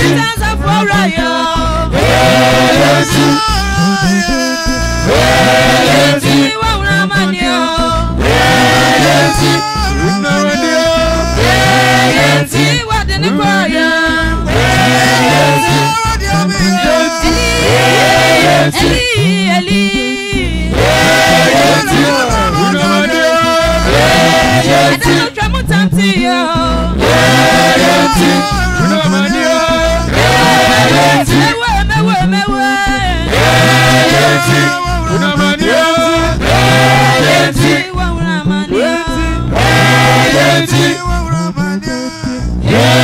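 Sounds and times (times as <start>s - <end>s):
group singing worship song: 0.0s - 43.0s.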